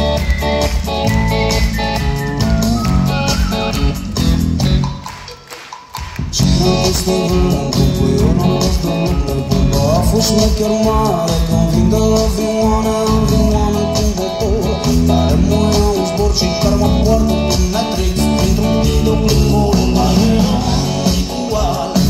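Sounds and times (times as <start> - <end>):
bass guitar: 0.0 - 5.3, 6.0 - 22.0
drums: 0.0 - 22.0.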